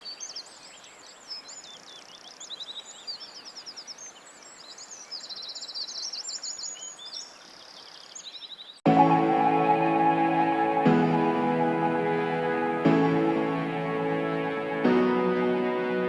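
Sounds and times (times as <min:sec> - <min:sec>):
songbirds singing: 0:00.0 - 0:13.7.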